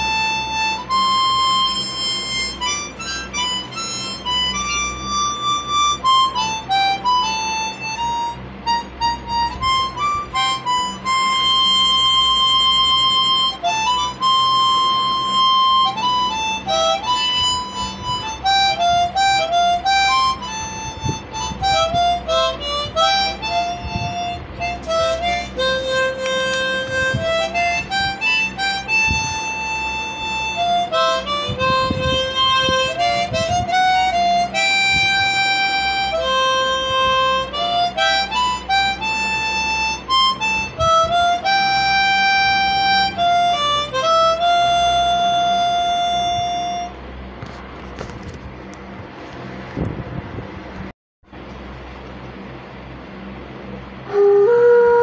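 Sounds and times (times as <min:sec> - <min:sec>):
slow wind instrument melody: 0:00.0 - 0:48.0, 0:53.9 - 0:55.0
faint wind noise: 0:00.0 - 0:54.2.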